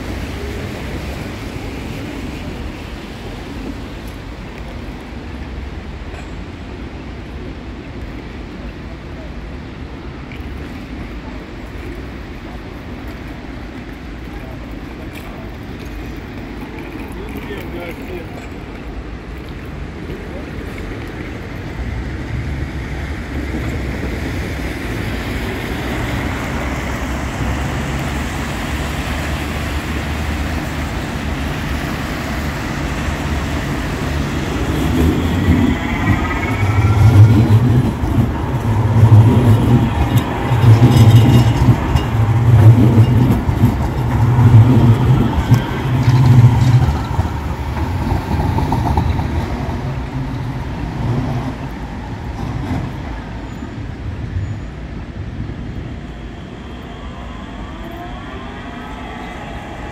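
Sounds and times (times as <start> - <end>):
street traffic noise: 0.0 - 59.9
tram rumbling pulses: 0.0 - 59.9
tram whine: 0.0 - 59.9.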